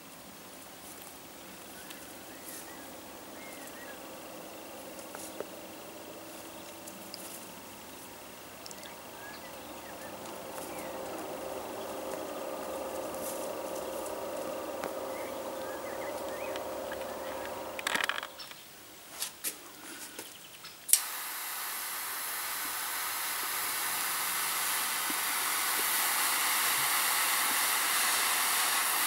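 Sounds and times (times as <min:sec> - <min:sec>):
steady mechanical hum: 0:00.0 - 0:20.2, 0:21.0 - 0:29.0.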